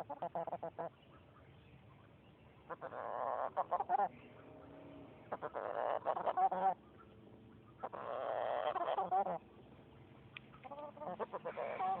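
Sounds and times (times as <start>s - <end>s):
chicken calling and clucking: 0.0s - 9.4s, 10.4s - 12.0s.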